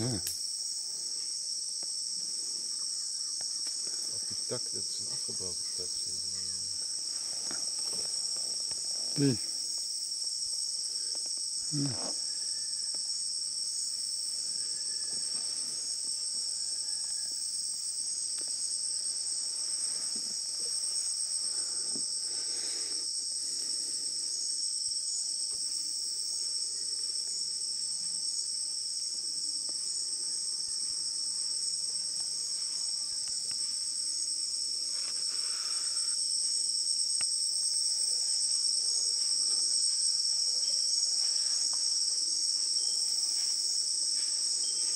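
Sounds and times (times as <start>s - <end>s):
chorus of insects: 0.0s - 44.9s.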